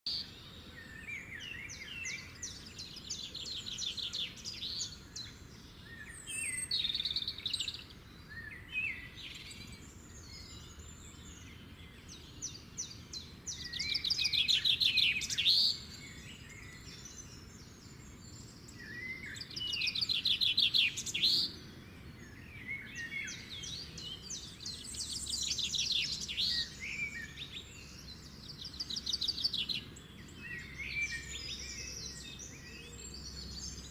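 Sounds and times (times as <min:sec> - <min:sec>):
birds singing trills: 0:00.1 - 0:33.9.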